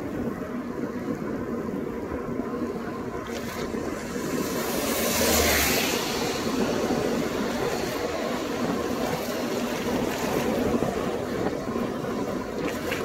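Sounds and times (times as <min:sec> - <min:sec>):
wet bicycle tyre noise: 0:00.0 - 0:13.0
wind on microphone: 0:00.0 - 0:13.0.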